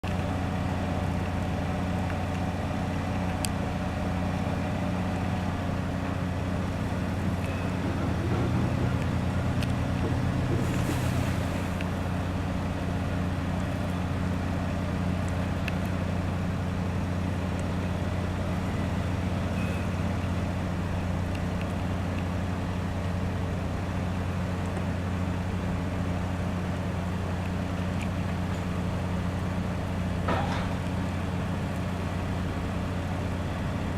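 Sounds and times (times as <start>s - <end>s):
engine idling drone: 0.0s - 33.9s.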